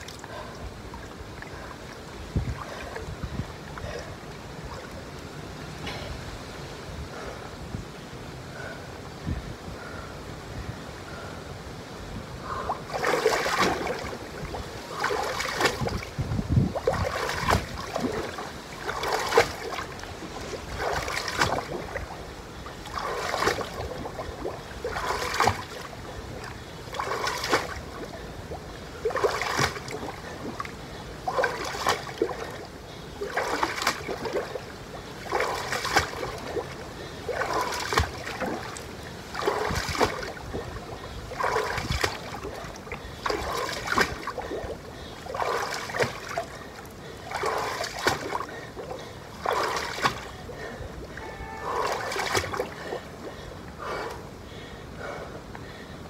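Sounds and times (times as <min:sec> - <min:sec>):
water splashing in a pool: 0:00.0 - 0:05.4, 0:12.4 - 0:54.2.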